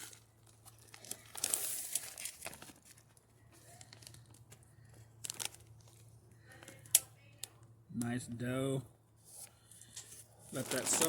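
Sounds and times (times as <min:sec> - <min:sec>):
crackle: 0:00.0 - 0:07.6, 0:09.6 - 0:11.0.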